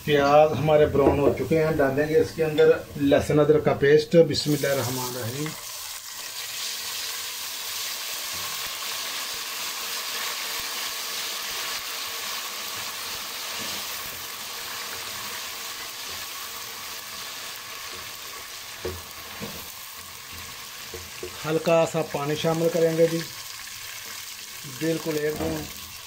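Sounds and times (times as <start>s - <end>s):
onions sizzling in hot fat: 0.0s - 26.0s.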